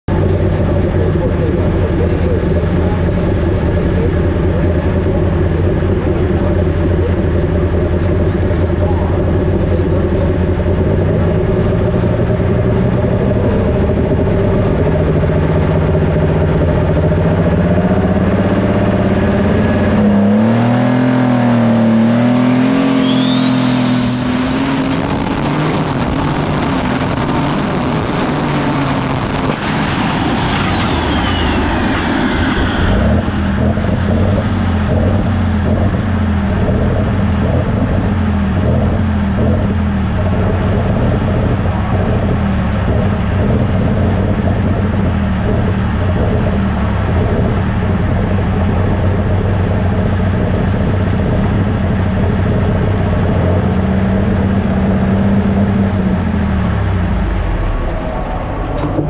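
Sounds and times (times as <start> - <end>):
diesel engine running under load: 0.0 - 59.0
turbocharger whine: 0.0 - 59.0.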